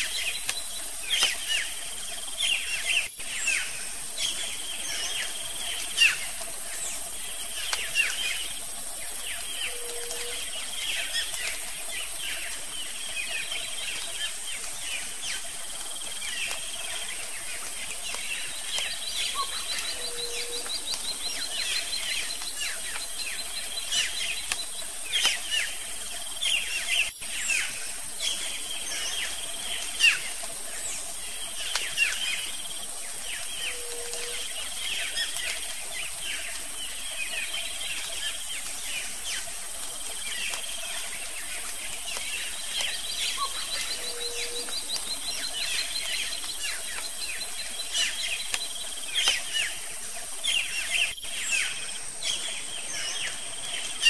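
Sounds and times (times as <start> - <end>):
birds chirping and calling: 0.0 - 54.0
steady high hiss: 0.0 - 54.0.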